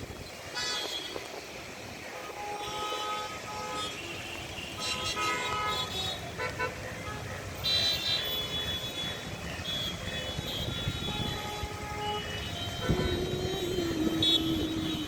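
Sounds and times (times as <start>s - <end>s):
rumble of vehicle engines: 0.0s - 15.0s
car horns honking: 2.2s - 15.0s.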